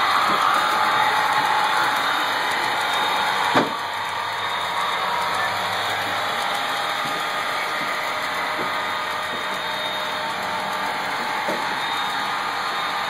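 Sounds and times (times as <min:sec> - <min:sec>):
model train whirring hum: 0:00.0 - 0:13.0.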